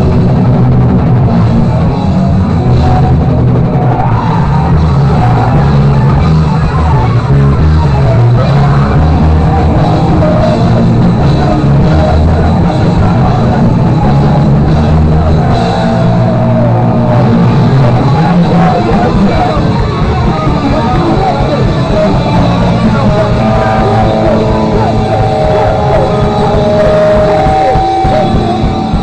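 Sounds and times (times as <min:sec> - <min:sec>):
rock band playing: 0:00.0 - 0:29.0.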